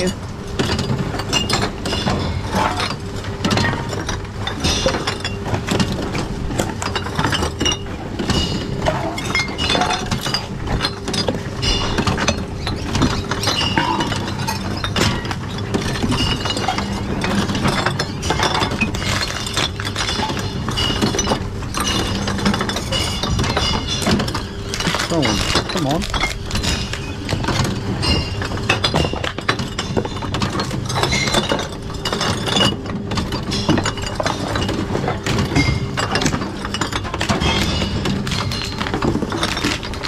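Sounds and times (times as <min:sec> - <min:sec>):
glass bottles clinking: 0:00.0 - 0:40.0.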